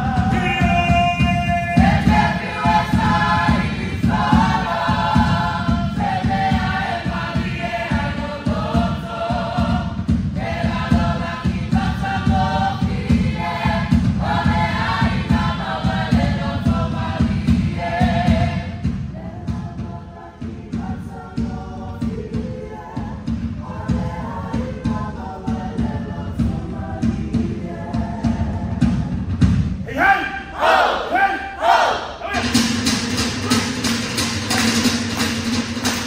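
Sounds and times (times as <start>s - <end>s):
group singing together: 0.0s - 29.6s, 30.2s - 36.0s
fast low drum beat: 0.0s - 29.8s, 32.4s - 36.0s.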